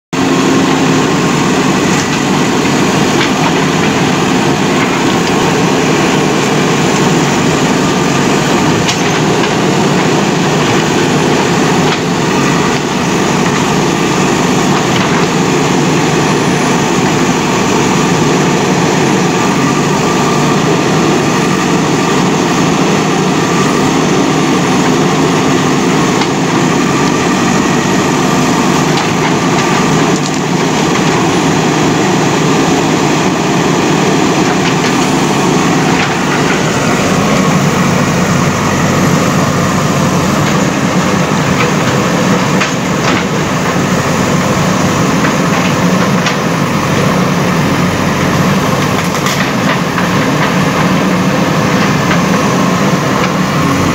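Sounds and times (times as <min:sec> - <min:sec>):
diesel engine running: 0:00.1 - 0:53.9
hydraulic arm digging: 0:00.2 - 0:53.9.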